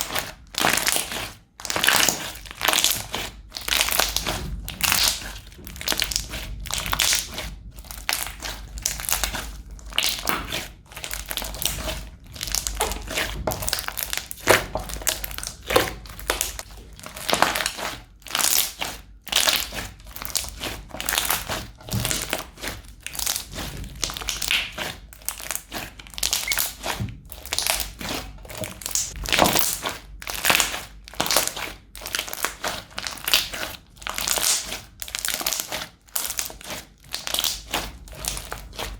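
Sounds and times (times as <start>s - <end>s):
crunchy slime squeezed by hand: 0.0s - 38.9s.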